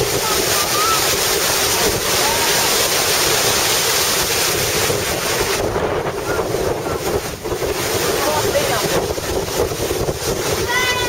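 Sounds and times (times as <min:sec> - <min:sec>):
water rushing past moving boat: 0:00.0 - 0:11.0
wind buffeting microphone: 0:00.0 - 0:11.0.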